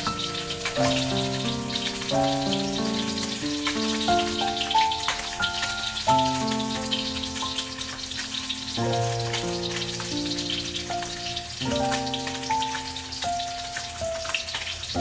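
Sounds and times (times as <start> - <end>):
background music melody: 0.0 - 15.0
hot oil crackling and spitting: 0.0 - 15.0.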